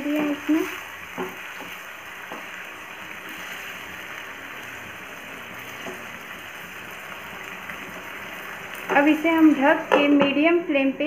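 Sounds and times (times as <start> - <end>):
spatula stirring: 0.0 - 10.1
curry sizzling and bubbling: 0.0 - 11.0.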